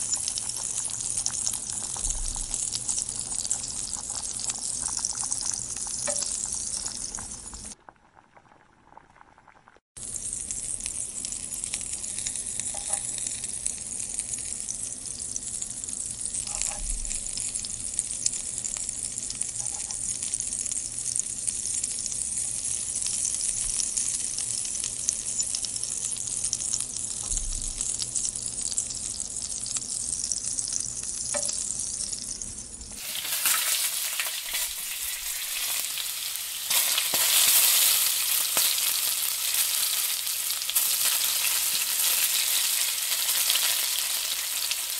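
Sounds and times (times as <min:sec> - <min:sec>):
chilli sizzling in hot oil: 0:00.0 - 0:07.8, 0:09.4 - 0:44.9.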